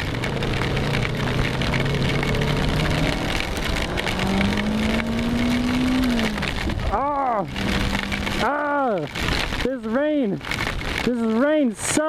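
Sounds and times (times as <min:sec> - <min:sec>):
motorcycle engine running: 0:00.0 - 0:11.2
wind and rain on microphone: 0:00.0 - 0:12.0.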